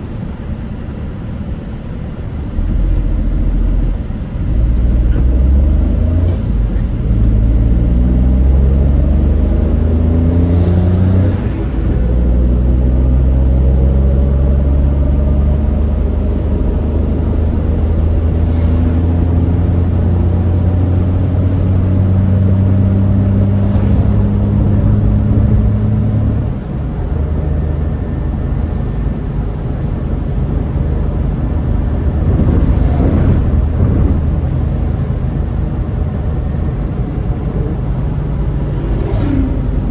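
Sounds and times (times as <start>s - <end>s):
road noise inside car: 0.0s - 39.9s
car engine accelerating: 2.5s - 39.9s.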